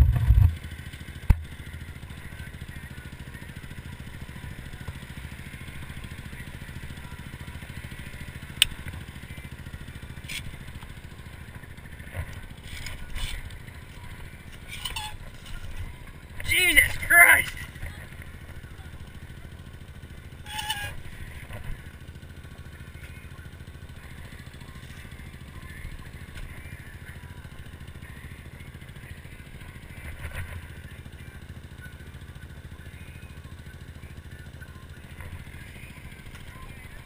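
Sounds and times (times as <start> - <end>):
atv engine idling: 0.0 - 37.0.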